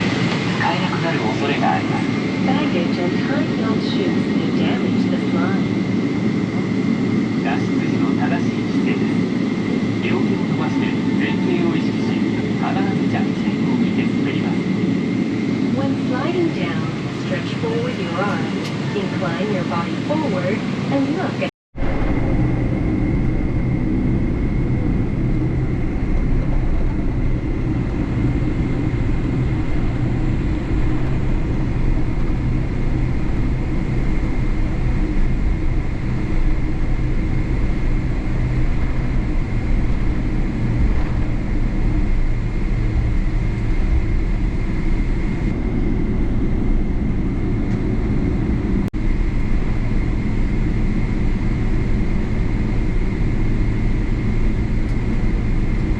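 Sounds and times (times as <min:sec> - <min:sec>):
jet engine rumble and whine: 0:00.0 - 0:55.9.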